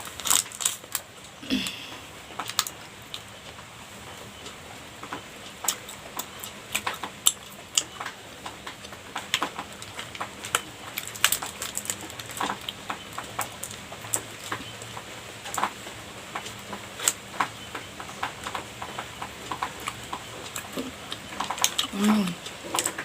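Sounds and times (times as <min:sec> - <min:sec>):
chewing soft pastry: 0:00.0 - 0:23.0.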